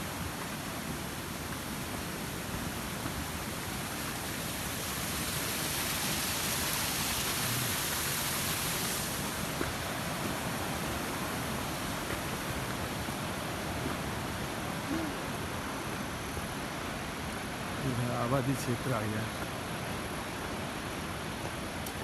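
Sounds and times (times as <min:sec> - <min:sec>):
steady rushing noise: 0:00.0 - 0:21.8.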